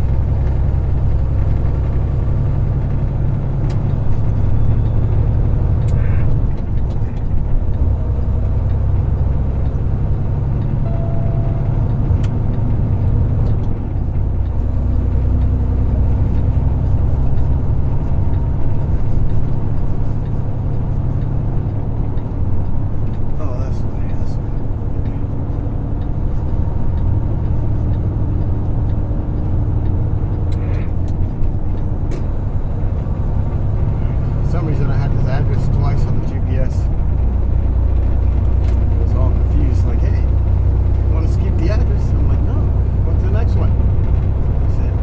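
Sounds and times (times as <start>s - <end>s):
truck engine and road drone: 0.0s - 45.0s.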